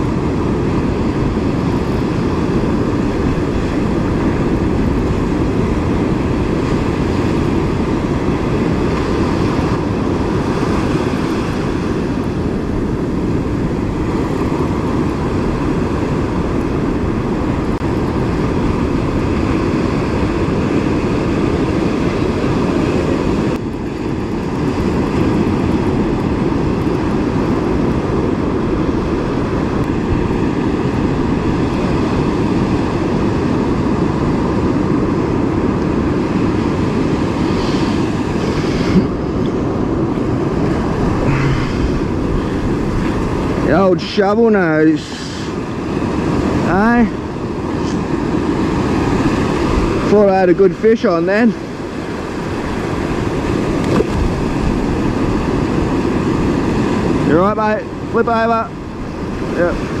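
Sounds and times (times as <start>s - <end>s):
surf washing up beach: 0.0s - 60.0s
wind buffeting microphone: 0.0s - 60.0s.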